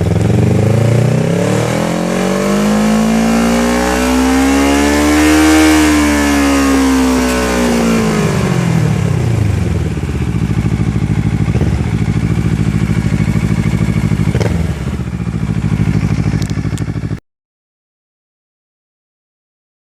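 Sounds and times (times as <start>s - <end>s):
motorcycle engine revving and idling: 0.0s - 17.2s.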